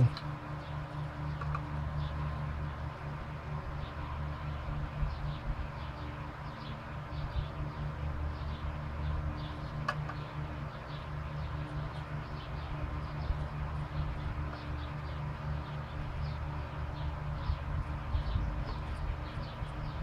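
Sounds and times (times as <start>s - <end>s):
shop fan humming: 0.0s - 20.0s.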